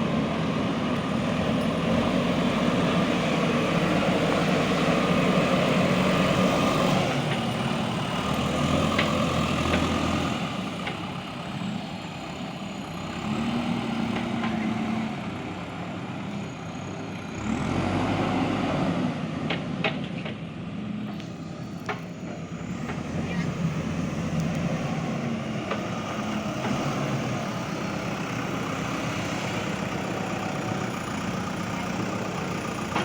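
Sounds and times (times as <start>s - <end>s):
backhoe diesel engine working: 0.0s - 33.0s.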